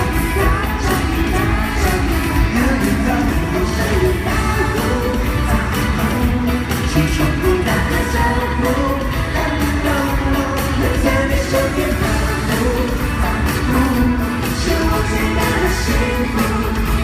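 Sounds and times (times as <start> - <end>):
drum beat: 0.0 - 17.0
live pop band playing: 0.0 - 17.0
person singing: 0.0 - 17.0.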